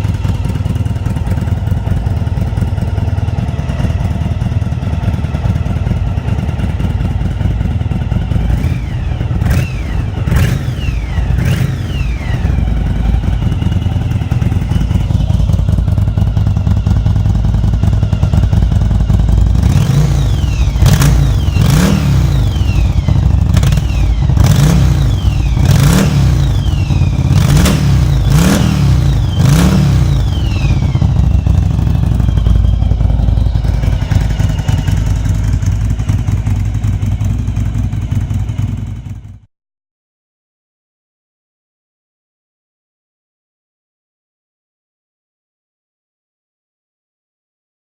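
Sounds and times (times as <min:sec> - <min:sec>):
exhaust cracks: 0:00.0 - 0:39.3
motorcycle engine revving: 0:00.0 - 0:39.5.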